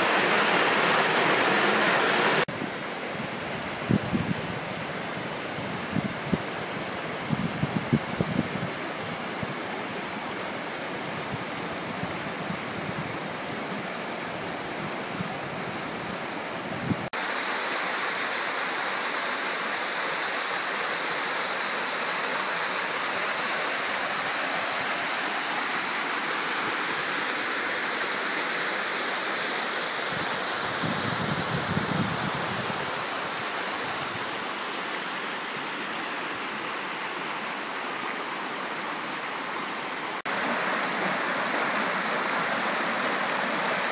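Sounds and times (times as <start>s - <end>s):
stream cascading over rocks: 0.0s - 43.9s.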